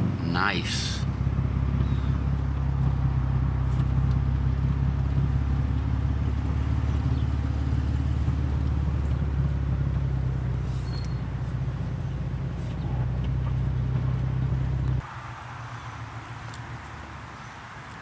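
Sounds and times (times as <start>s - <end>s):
vehicle engine idling: 0.0s - 15.1s.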